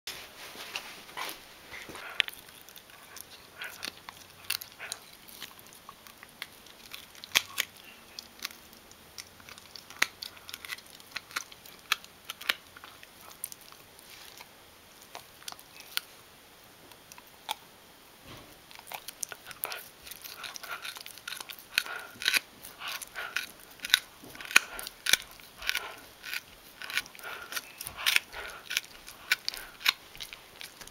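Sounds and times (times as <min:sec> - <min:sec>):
dog chewing crunchy chew: 0:00.6 - 0:16.2, 0:18.5 - 0:30.9
loud cracks of chew: 0:01.9 - 0:16.1, 0:18.7 - 0:30.9.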